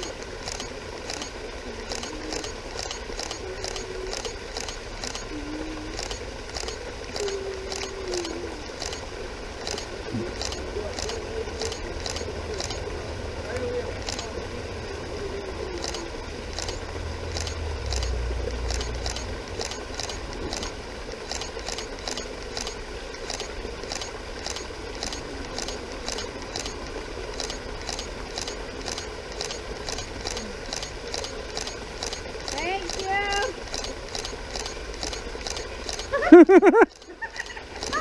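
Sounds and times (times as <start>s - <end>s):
waterfall splashing into pool: 0.0s - 38.0s.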